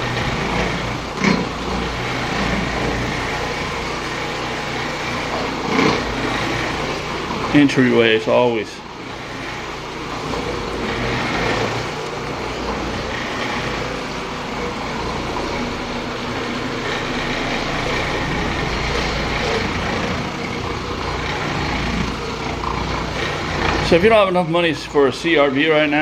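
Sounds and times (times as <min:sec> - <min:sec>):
floor scrubbing machine humming: 0:00.0 - 0:26.0.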